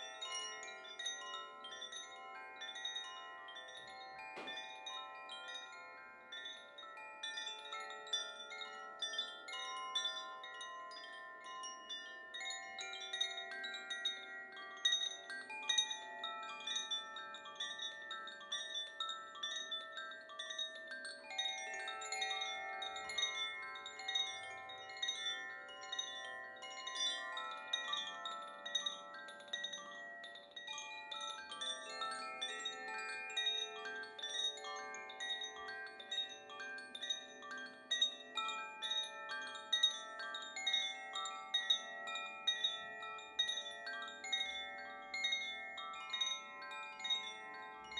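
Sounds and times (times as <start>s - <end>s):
wind chimes tinkling: 0.0s - 47.9s.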